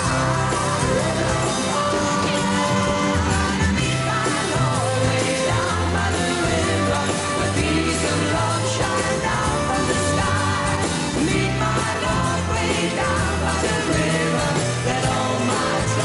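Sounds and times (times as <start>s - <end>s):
bass line: 0.0s - 16.0s
pop song with singer and band: 0.0s - 16.0s.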